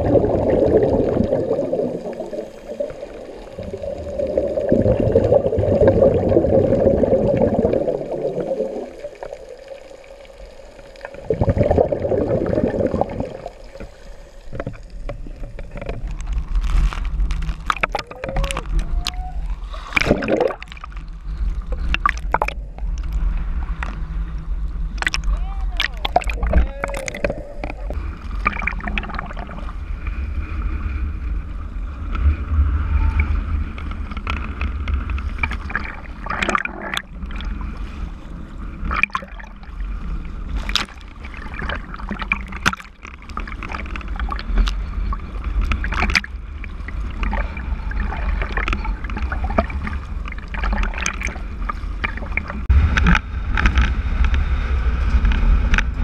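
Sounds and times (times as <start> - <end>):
steady low rumble: 0.0 - 42.6, 43.2 - 56.0
sea water splashing: 0.0 - 56.0.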